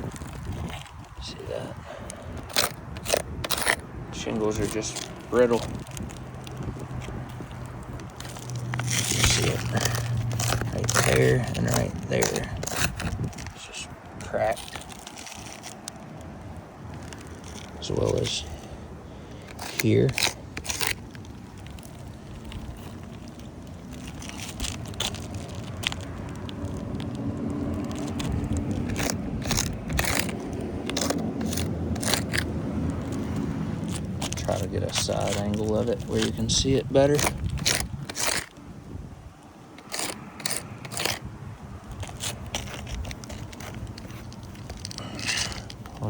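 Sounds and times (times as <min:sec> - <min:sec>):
shingles crackling: 0:00.0 - 0:46.0
steady low rumble: 0:00.0 - 0:46.0.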